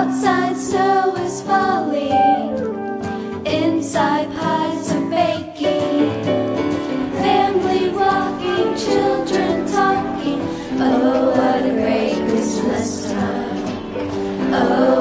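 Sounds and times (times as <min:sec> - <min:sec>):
christmas song singing: 0:00.0 - 0:15.0
instrumental backing music: 0:00.0 - 0:15.0.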